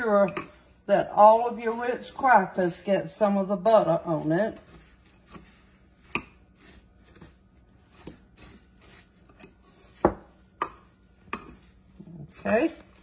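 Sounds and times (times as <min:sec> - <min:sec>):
spoon stirring crunchy crumbs: 0:00.0 - 0:13.0.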